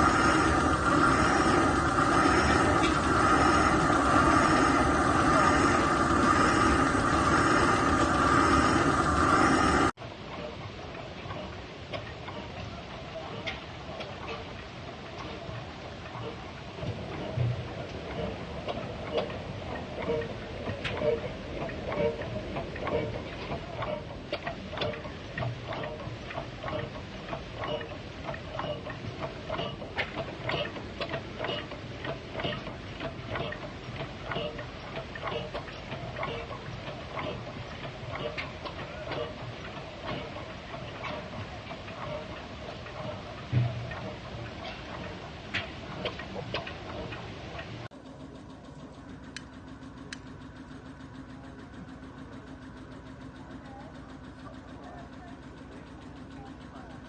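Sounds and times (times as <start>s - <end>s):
slow engine knocking: 0.0s - 9.9s, 11.3s - 57.0s.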